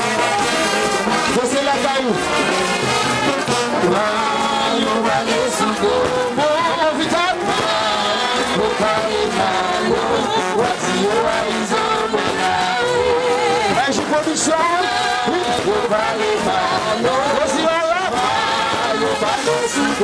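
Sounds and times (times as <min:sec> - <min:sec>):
brass horns sliding melody: 0:00.0 - 0:20.0
people singing: 0:00.0 - 0:20.0.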